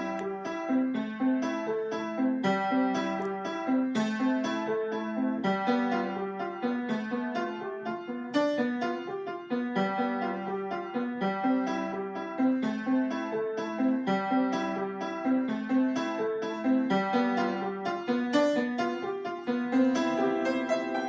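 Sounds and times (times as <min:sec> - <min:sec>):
solo piano: 0:00.0 - 0:21.0.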